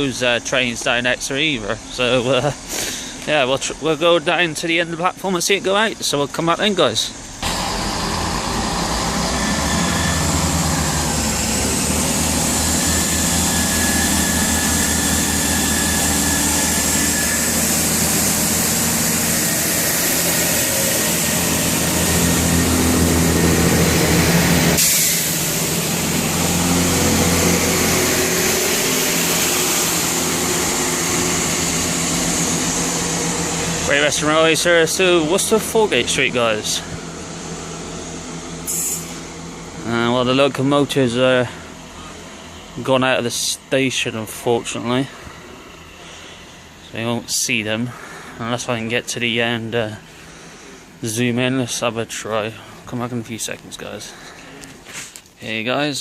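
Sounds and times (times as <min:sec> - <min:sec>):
train diesel engines running: 0:00.0 - 0:56.0.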